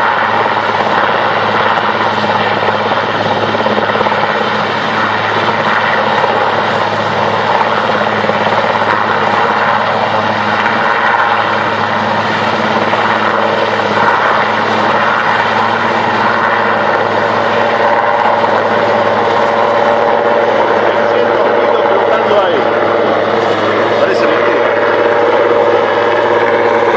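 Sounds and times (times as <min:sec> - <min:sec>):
helicopter rotor and turbine noise: 0:00.0 - 0:26.9.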